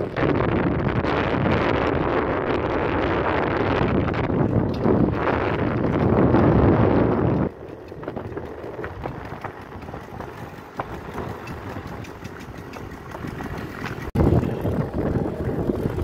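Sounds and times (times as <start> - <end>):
motorcycle engine running: 0.0 - 16.0
wind rushing: 0.0 - 16.0.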